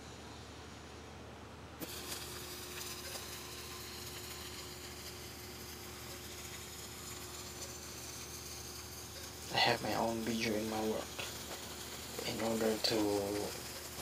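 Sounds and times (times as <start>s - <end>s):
welding arc hissing: 1.8s - 14.0s.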